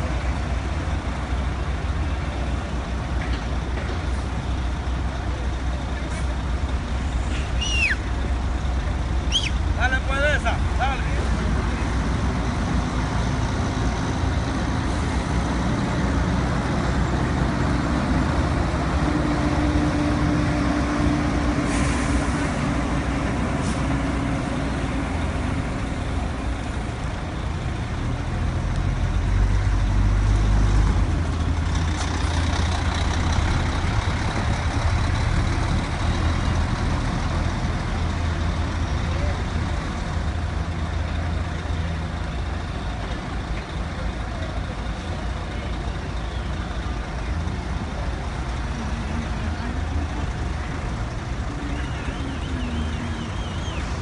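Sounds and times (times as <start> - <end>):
bus engines rumbling: 0.0 - 54.0.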